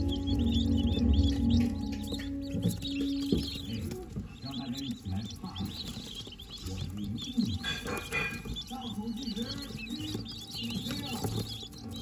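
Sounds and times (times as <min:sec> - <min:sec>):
quail chicks peeping: 0:00.0 - 0:12.0.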